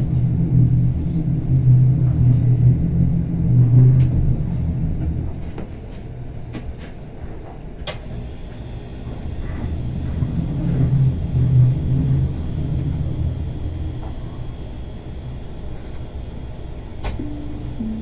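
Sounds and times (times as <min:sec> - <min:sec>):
train rumble from inside carriage: 0:00.0 - 0:18.0.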